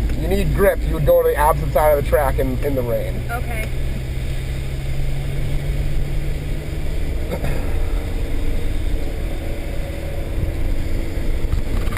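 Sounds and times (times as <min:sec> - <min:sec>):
car engine running: 0:00.0 - 0:11.9
tyre and road noise: 0:00.0 - 0:11.9.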